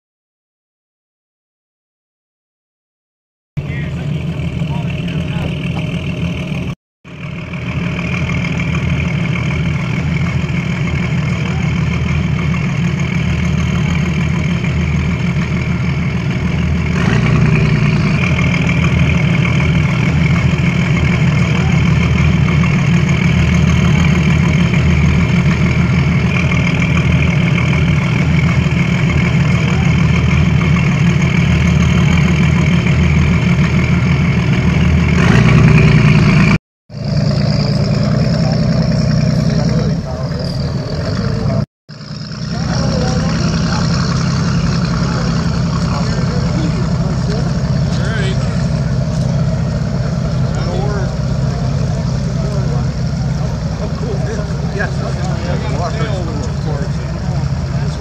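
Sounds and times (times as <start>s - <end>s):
engine running steadily: 3.6s - 58.0s.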